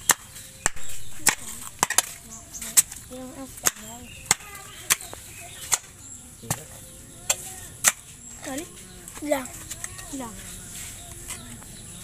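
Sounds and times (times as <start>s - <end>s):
faint voices talking: 0.4s - 12.0s.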